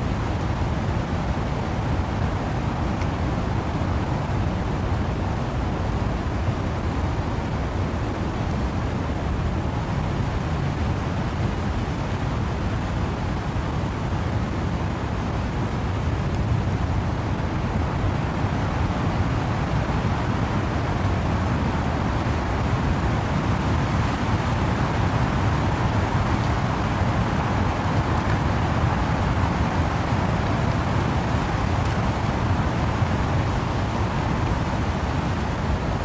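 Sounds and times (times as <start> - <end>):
wind and rain in trees: 0.0 - 36.0.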